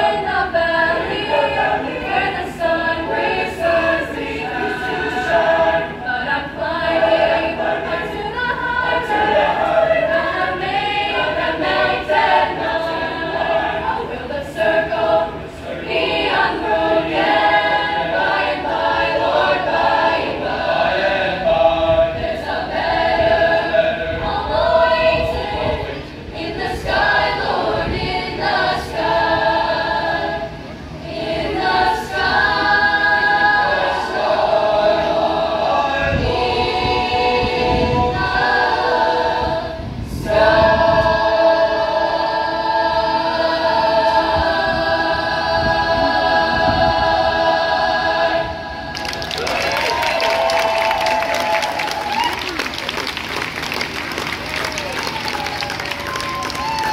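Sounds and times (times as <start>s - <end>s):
choir singing: 0.0s - 52.1s.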